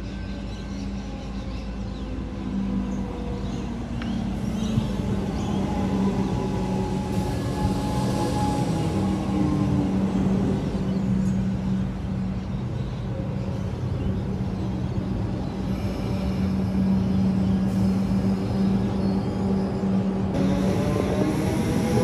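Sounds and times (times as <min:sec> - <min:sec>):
train humming and rumbling: 0:00.0 - 0:22.0.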